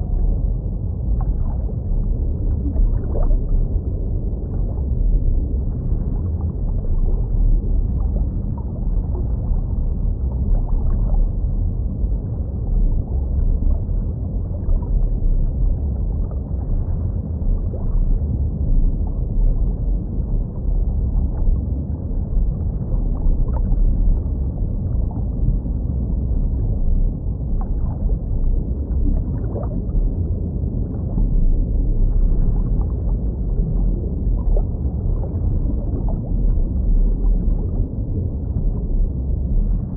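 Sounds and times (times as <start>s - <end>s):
faint bubbling ticks: 0.0s - 39.9s
muffled underwater rumble: 0.0s - 39.9s.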